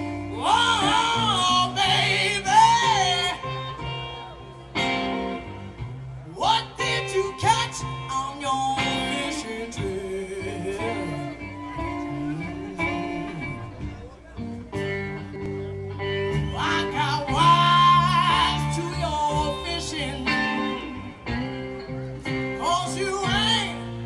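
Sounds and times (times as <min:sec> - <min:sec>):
person singing over guitar: 0:00.0 - 0:24.0.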